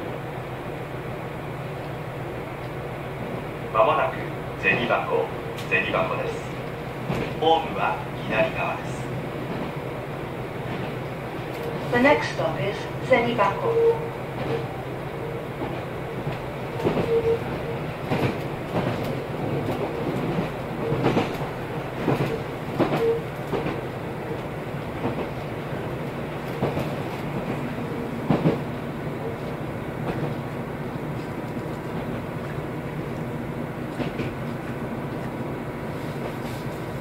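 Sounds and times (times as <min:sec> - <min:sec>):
wheels rumbling on rail: 0:00.0 - 0:37.0.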